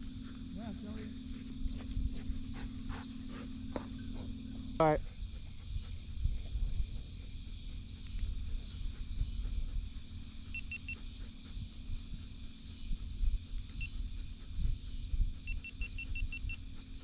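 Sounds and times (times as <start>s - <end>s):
chorus of field insects: 0.0s - 17.0s.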